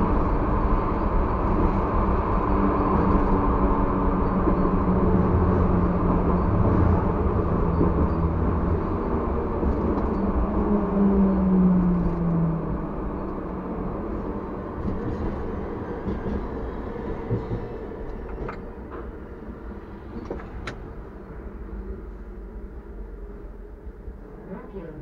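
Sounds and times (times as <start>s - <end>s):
tram motor whine: 0.0s - 25.0s
wheels rumbling on rails: 0.0s - 25.0s.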